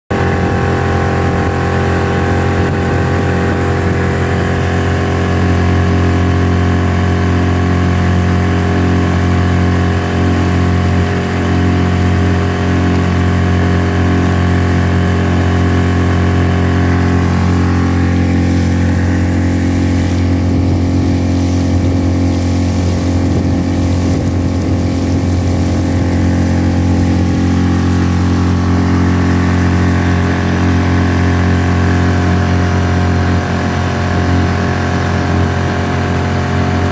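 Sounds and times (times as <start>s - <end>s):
outboard motor running steadily: 0.1s - 36.9s.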